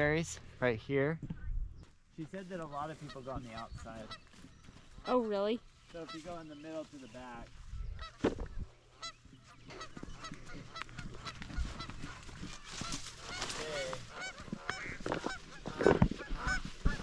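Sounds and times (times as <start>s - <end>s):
honking bird calls: 2.2s - 17.0s.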